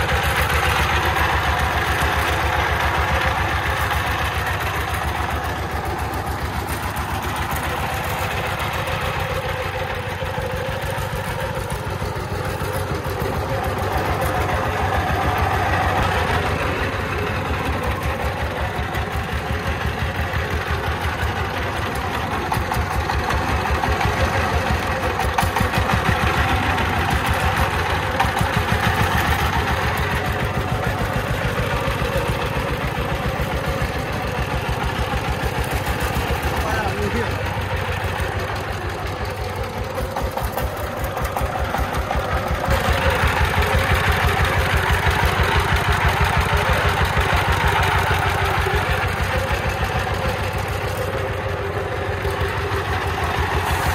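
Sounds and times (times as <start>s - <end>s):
diesel engine chugging: 0.0s - 53.9s.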